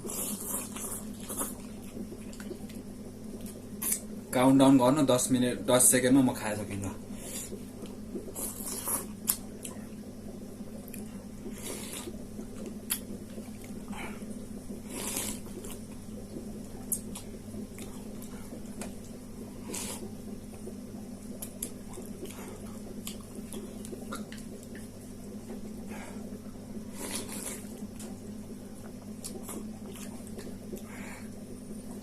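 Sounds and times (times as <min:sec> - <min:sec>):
slurping and chewing noodles: 0:00.0 - 0:04.1, 0:07.2 - 0:09.9, 0:10.8 - 0:28.2, 0:28.8 - 0:31.3
steady low hum: 0:00.0 - 0:32.0.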